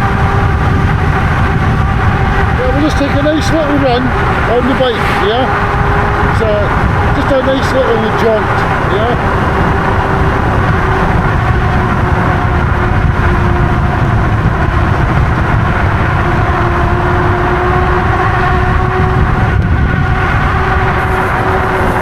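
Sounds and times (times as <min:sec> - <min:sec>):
road noise: 0:00.0 - 0:22.0
wind rushing over microphone: 0:00.0 - 0:22.0.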